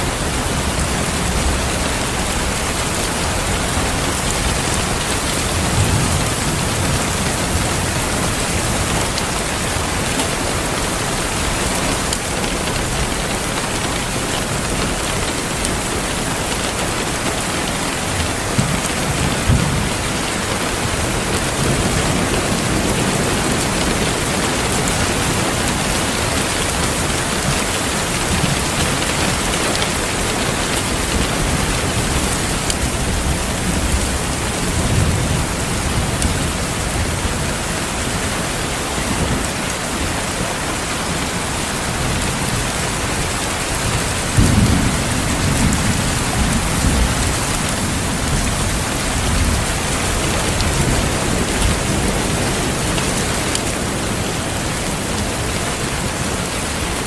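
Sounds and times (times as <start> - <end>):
heavy rain hissing: 0.0 - 57.0
low thunder rumbling: 0.1 - 39.6, 41.7 - 56.9.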